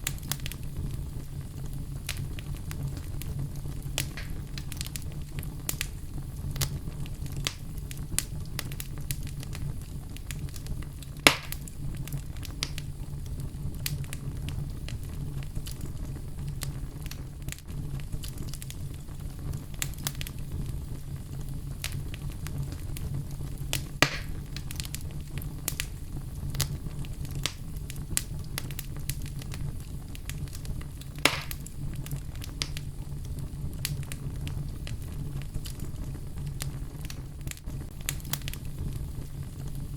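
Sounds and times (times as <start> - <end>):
fire crackling: 0.0 - 39.9
fire popping: 0.0 - 39.9
fire rumbling: 0.0 - 39.9.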